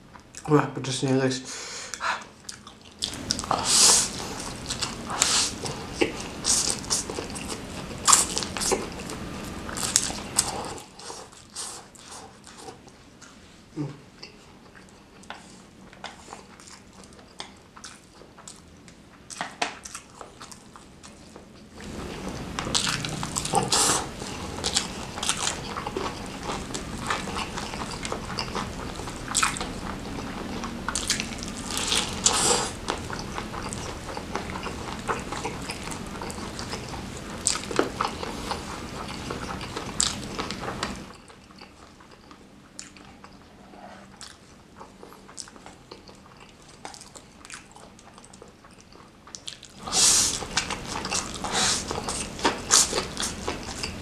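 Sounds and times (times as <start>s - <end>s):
close chewing with mouth clicks: 1.9s - 13.5s, 14.1s - 54.0s.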